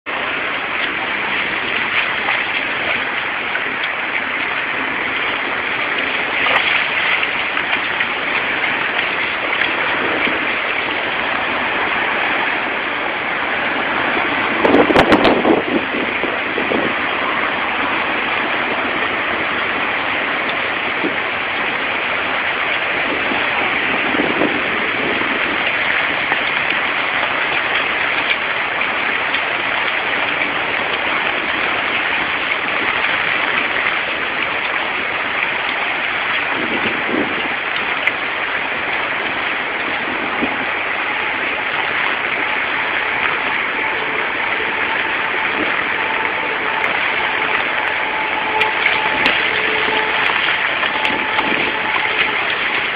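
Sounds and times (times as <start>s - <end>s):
heavy rain on flooded road: 0.0s - 52.9s
vehicles passing through water: 0.0s - 52.9s.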